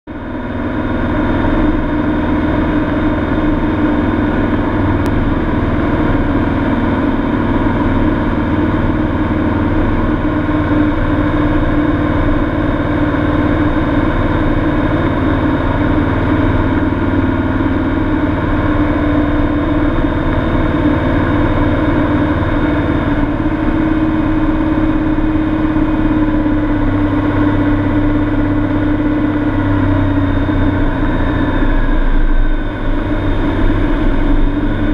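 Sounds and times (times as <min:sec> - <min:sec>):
airplane engine drone in cabin: 0:00.1 - 0:34.9.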